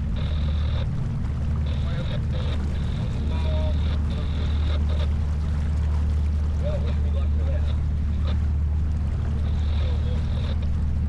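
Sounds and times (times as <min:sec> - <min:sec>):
water rushing along a hull: 0:00.0 - 0:11.0.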